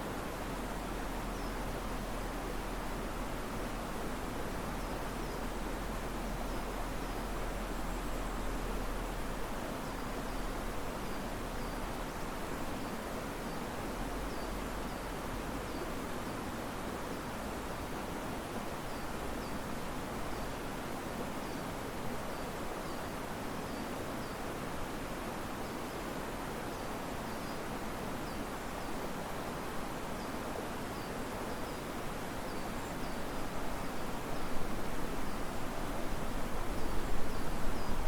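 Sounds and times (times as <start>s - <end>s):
leaves rustling in wind: 0.0s - 38.0s
river water rushing: 0.0s - 38.0s.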